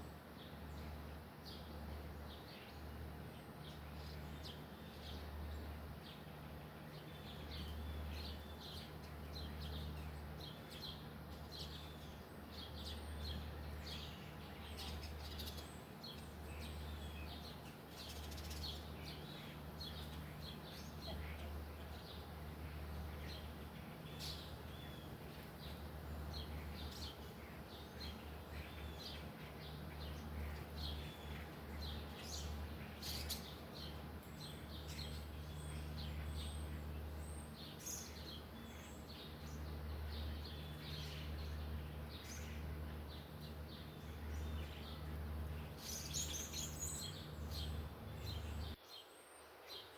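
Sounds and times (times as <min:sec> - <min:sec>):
steady low hum: 0:00.0 - 0:48.8.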